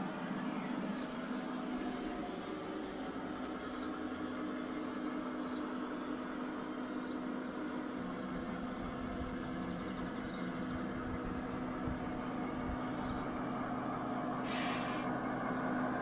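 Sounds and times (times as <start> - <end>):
model train diesel engine sound: 0.0 - 16.0.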